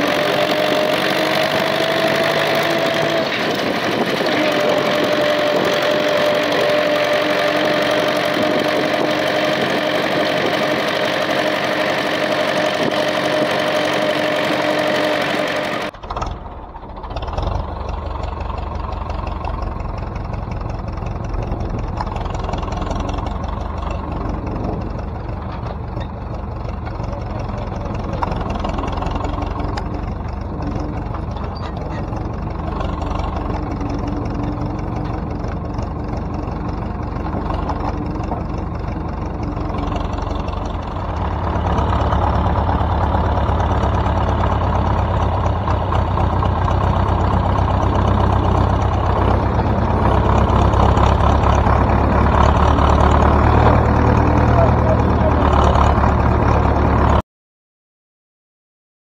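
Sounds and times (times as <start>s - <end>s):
tractor diesel engine running: 0.0s - 57.2s.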